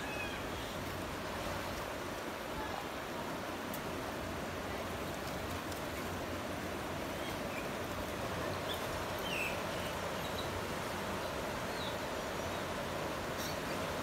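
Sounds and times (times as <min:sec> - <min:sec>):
river flowing over rocks: 0:00.0 - 0:14.0.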